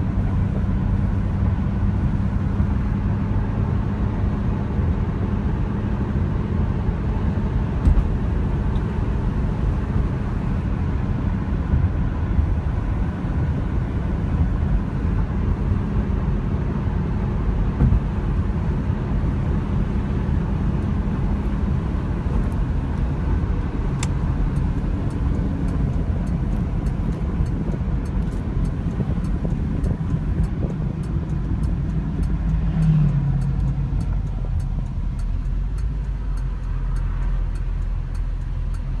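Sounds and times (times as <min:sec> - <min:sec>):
car engine cruising: 0:00.0 - 0:39.0
tyre and road noise: 0:00.0 - 0:39.0.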